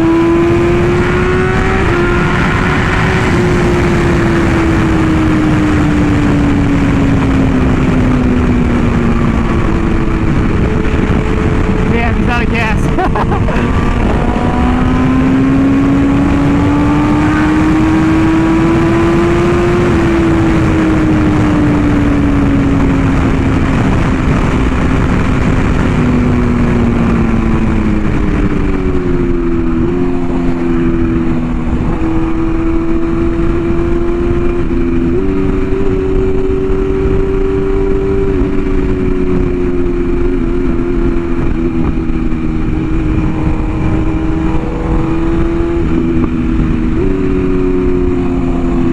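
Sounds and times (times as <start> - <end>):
sport bike engine running: 0.0 - 48.9.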